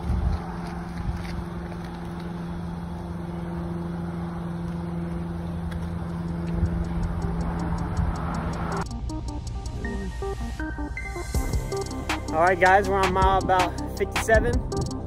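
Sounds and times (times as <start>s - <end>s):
road and wind noise: 0.0s - 15.0s
vehicle engine hum: 0.0s - 15.0s.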